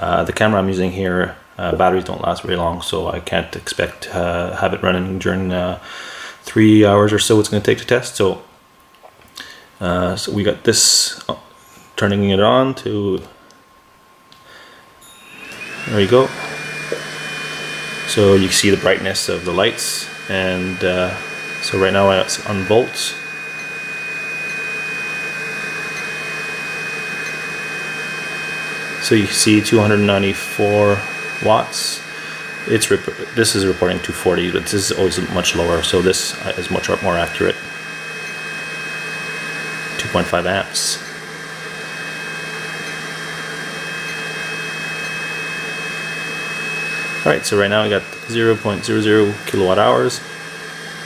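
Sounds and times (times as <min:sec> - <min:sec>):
high-pitched inverter whine: 0:00.0 - 0:51.0
fan whir: 0:09.2 - 0:51.0.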